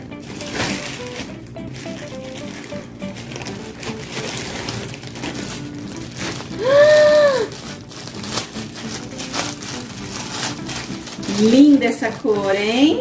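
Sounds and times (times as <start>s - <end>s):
faint background music: 0.0s - 13.0s
plastic packaging crinkling: 0.0s - 13.0s.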